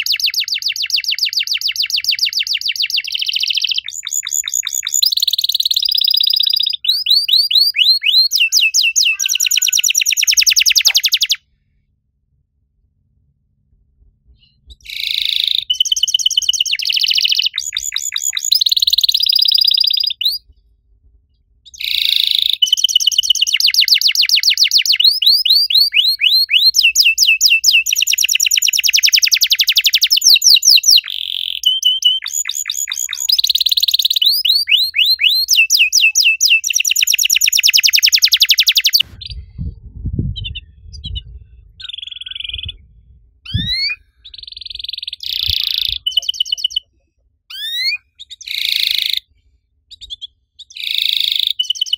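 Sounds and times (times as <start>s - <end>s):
canary singing: 0.0s - 11.4s, 14.5s - 20.4s, 21.7s - 39.4s, 40.6s - 42.9s, 43.5s - 46.9s, 47.5s - 49.2s, 49.9s - 51.9s.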